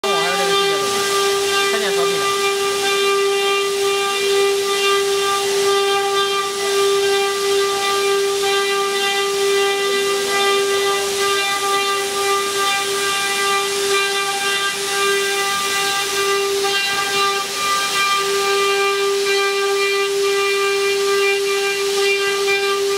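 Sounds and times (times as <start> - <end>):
continuous hiss: 0.0 - 22.9
router spindles whining: 0.0 - 22.9.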